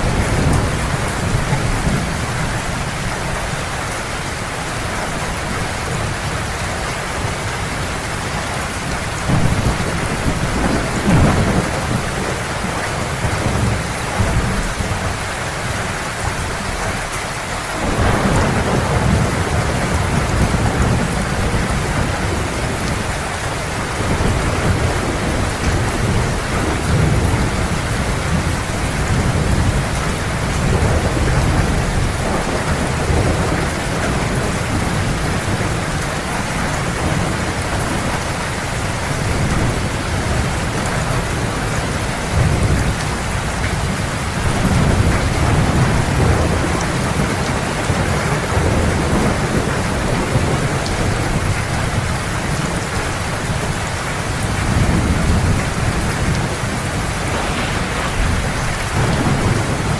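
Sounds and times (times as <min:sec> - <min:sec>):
heavy rain falling: 0:00.0 - 0:59.9
rolling thunder: 0:04.8 - 0:17.0, 0:17.7 - 0:52.8, 0:53.4 - 0:59.9.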